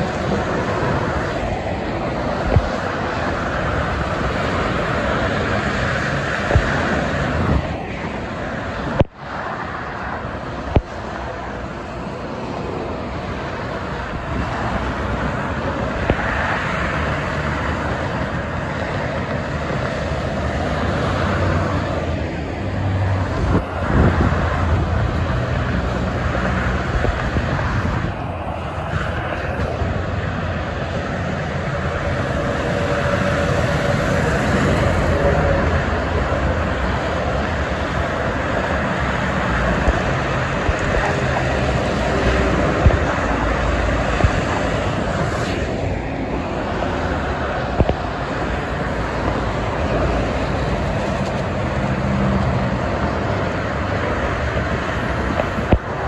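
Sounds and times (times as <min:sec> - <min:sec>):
expressway traffic: 0:00.0 - 0:56.0
heavy vehicle passing: 0:00.0 - 0:56.0.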